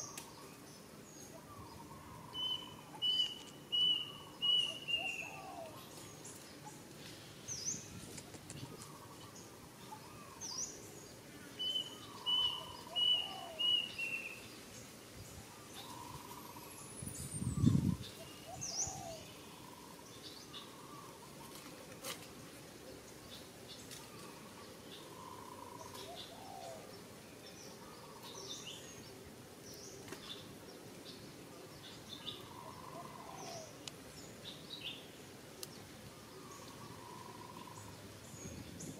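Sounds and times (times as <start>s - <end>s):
birds calling and chirping: 0.0s - 38.9s.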